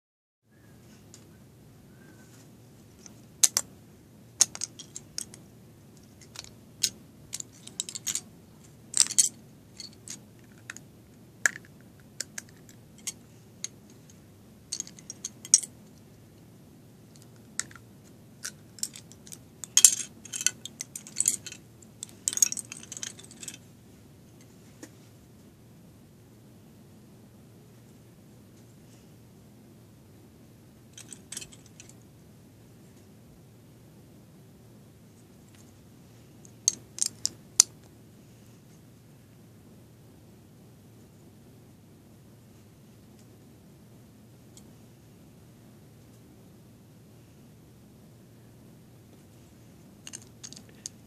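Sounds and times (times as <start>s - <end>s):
steady low hum: 0.5s - 51.0s.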